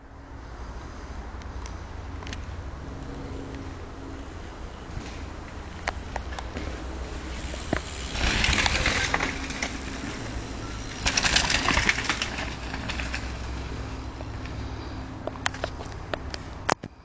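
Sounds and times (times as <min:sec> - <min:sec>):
mountain bikes passing: 0:01.8 - 0:16.7.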